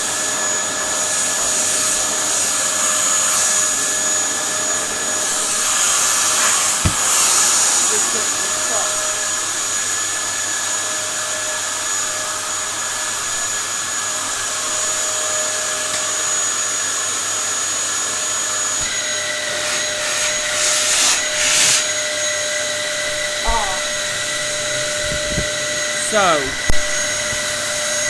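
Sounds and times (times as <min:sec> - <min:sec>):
vacuum cleaner whining: 0:00.0 - 0:28.0.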